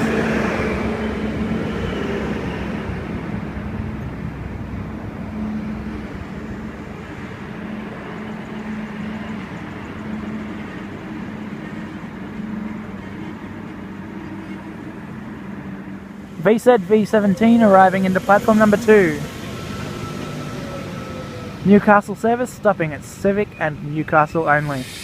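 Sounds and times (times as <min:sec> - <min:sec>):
diesel railcar engine hum: 0:00.0 - 0:25.0.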